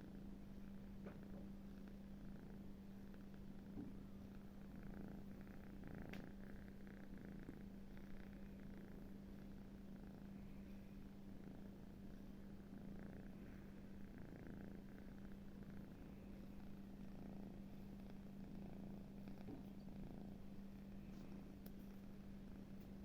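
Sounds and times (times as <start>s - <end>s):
kitten snoring softly: 0.0s - 23.0s
steady low hum: 0.0s - 23.0s.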